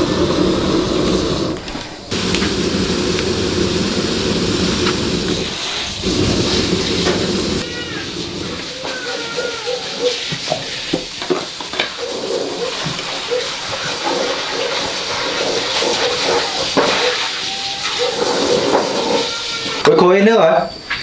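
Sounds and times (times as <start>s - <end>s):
wood fire crackling: 0.0s - 9.2s, 9.9s - 19.1s
pot boiling and bubbling: 0.0s - 19.6s.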